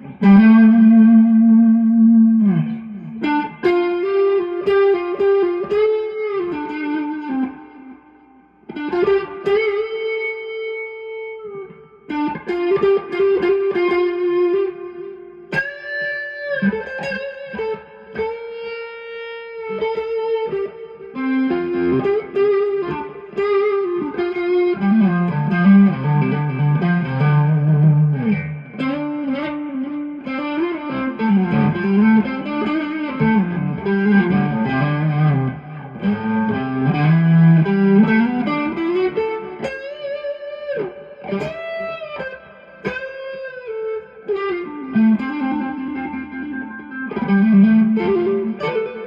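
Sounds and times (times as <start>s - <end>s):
overdriven electric guitar lead: 0.0s - 49.0s.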